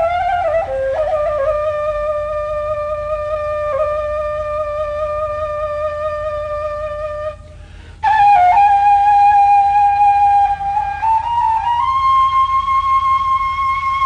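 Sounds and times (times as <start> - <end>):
wooden flute melody: 0.0 - 14.0.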